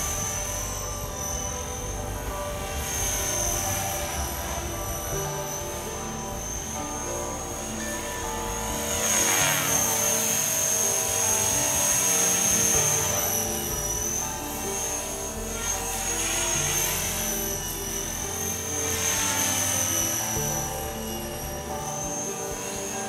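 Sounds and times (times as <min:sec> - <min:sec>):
background music: 0:00.0 - 0:23.0
rc helicopter whine: 0:00.0 - 0:23.0.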